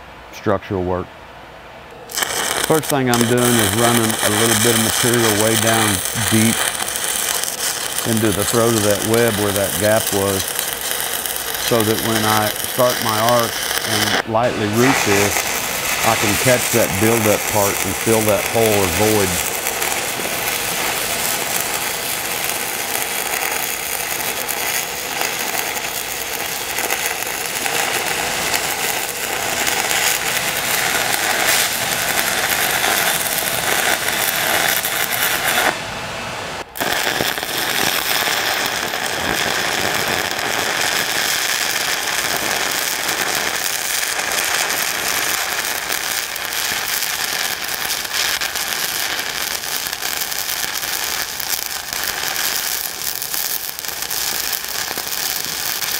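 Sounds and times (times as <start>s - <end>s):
welding arc crackling: 2.1s - 35.9s, 36.6s - 55.9s.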